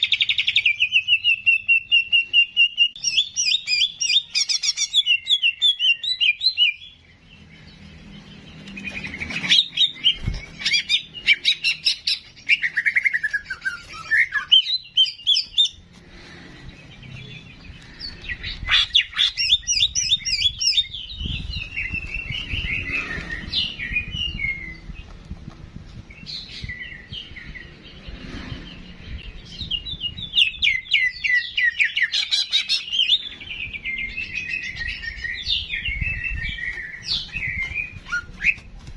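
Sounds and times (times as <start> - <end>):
songbird chirps and trills: 0.0 - 38.9.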